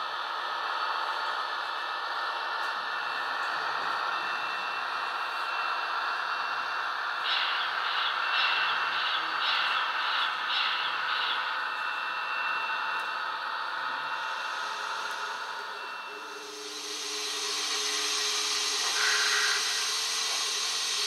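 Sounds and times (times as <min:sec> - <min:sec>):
model locomotive hiss and whine: 0:00.0 - 0:21.0.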